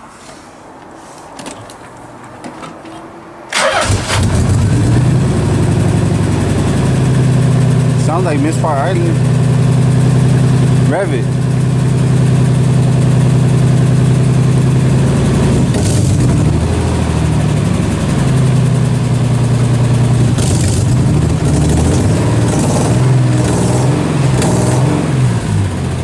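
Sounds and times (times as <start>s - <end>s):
misfiring car engine revving: 3.5s - 26.0s.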